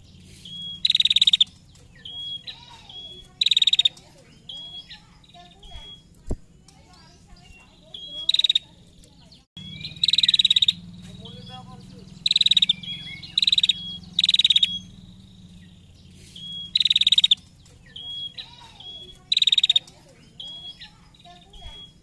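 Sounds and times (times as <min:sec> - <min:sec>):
bird rattling trills: 0:00.0 - 0:22.0
thin whistled bird notes: 0:00.0 - 0:22.0.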